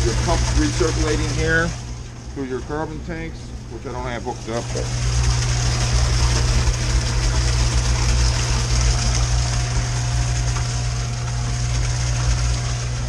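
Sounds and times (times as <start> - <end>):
pump humming and hissing: 0.0 - 13.0.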